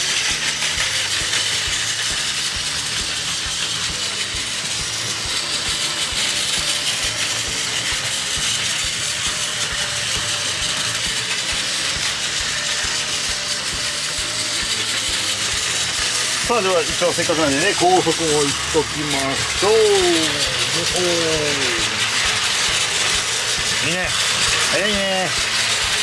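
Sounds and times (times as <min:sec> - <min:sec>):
toy train motor whirring: 0:00.0 - 0:26.0
wheels clicking over plastic track: 0:00.0 - 0:26.0.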